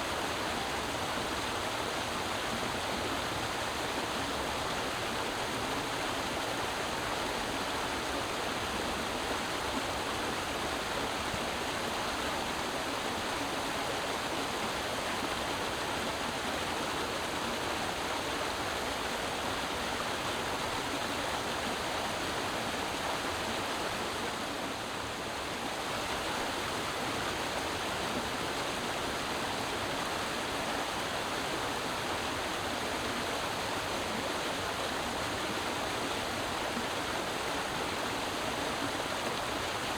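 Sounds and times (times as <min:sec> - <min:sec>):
creek water flowing and splashing: 0:00.0 - 0:39.9.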